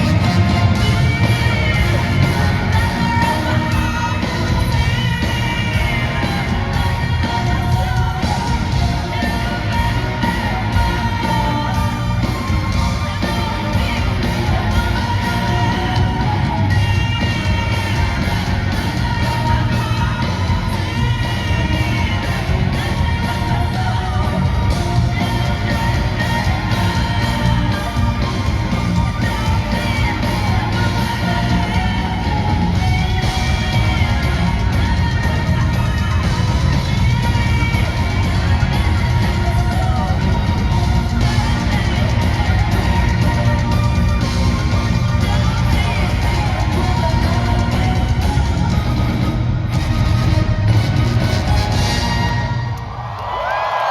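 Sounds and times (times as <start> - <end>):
drum and cymbal beat: 0.0 - 52.6
rock band with orchestra playing: 0.0 - 53.9.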